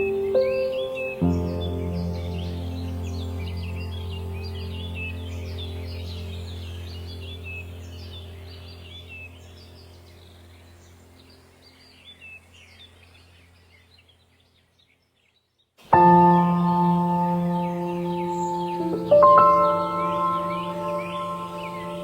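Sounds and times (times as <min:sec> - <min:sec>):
ambient music drone: 0:00.0 - 0:13.6, 0:16.0 - 0:22.0
ambient music held tones: 0:00.0 - 0:14.4, 0:15.9 - 0:22.0
small birds chirping: 0:00.0 - 0:22.0.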